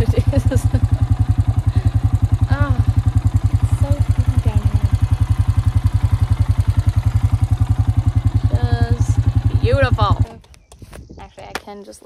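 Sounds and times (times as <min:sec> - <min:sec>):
quad engine running: 0:00.0 - 0:11.3.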